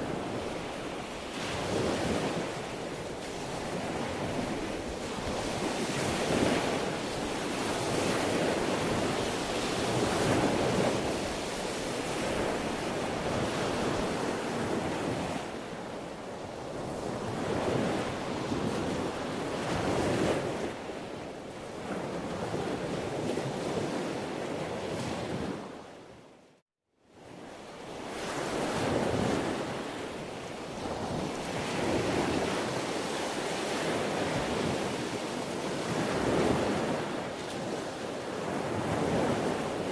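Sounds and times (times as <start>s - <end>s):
sea waves washing ashore: 0.0s - 26.1s, 27.2s - 39.9s.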